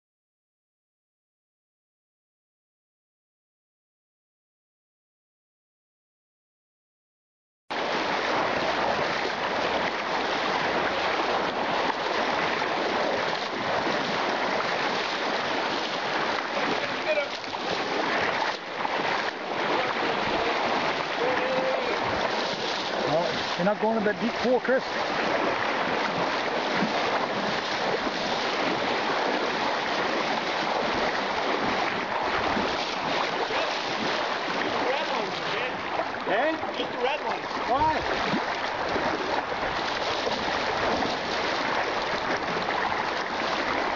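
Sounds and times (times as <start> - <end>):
creek water rushing: 7.7 - 43.9.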